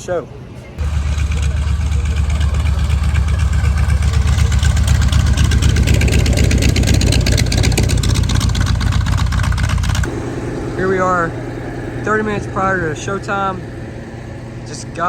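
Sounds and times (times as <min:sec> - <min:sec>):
piston engine running: 0:00.8 - 0:15.0.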